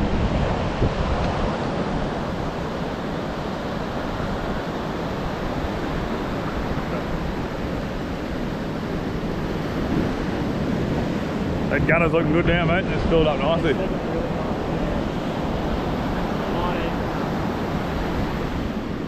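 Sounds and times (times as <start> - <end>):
ocean surf breaking: 0.0 - 19.0
wind on microphone: 0.0 - 19.0.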